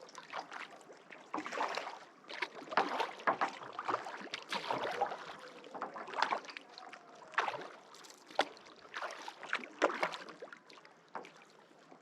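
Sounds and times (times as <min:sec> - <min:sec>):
paddle splashing in water: 0:00.0 - 0:11.5.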